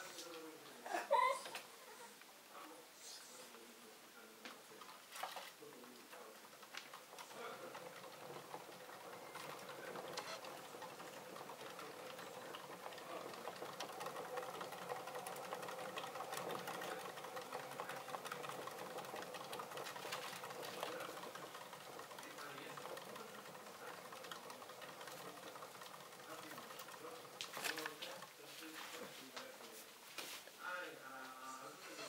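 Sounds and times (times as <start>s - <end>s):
exercise wheel whirring: 3.2s - 32.0s.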